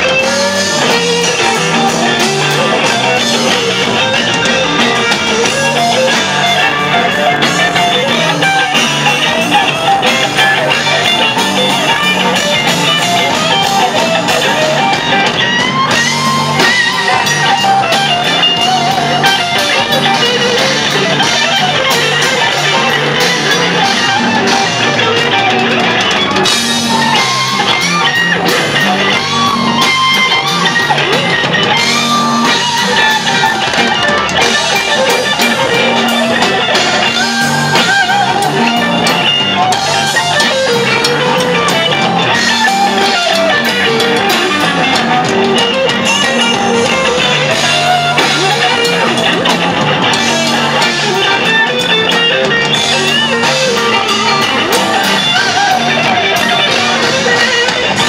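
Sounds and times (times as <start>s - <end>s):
drum kit: 0.0s - 58.0s
electric bass: 0.0s - 58.0s
electric guitar lead: 0.0s - 58.0s.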